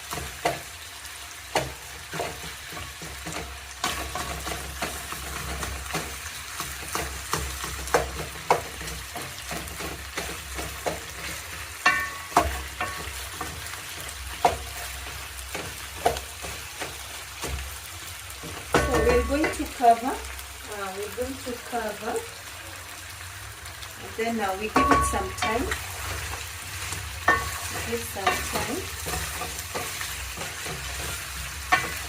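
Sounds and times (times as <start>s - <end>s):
chicken sizzling in a pot: 0.0s - 32.0s.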